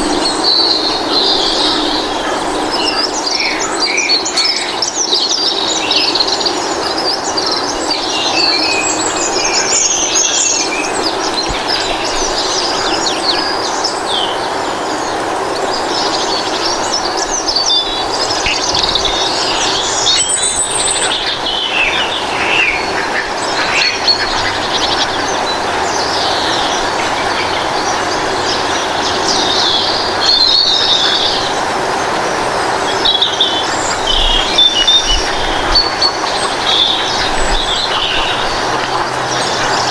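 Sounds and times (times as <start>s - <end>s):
small birds chirping: 0.0s - 39.9s
steady rushing noise: 0.0s - 39.9s.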